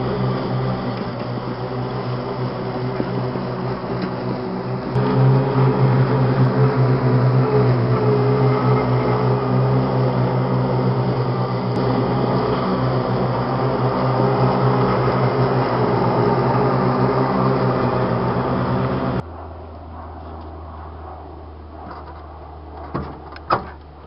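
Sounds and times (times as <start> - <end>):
electric garden tractor mowing: 0.0 - 19.3.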